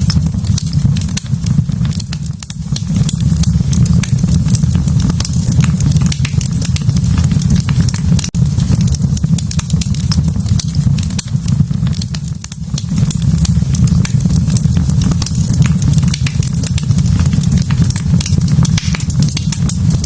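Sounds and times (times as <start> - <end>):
low rumble of flame: 0.0 - 20.0
wood fire crackling and popping: 0.0 - 20.0.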